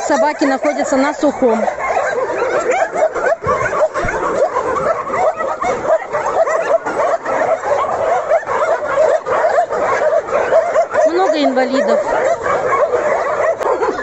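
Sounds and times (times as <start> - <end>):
many dogs barking and yelping: 0.0 - 14.0.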